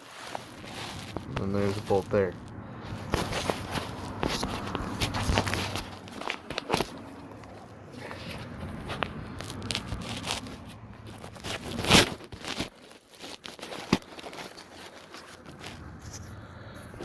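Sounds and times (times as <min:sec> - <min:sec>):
loud scraping rustle: 0:00.0 - 0:17.0.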